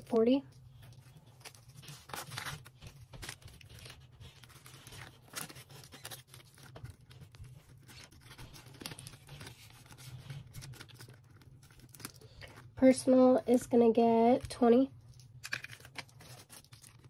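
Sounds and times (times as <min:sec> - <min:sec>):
banknotes rustling and flicking: 0:00.0 - 0:17.0.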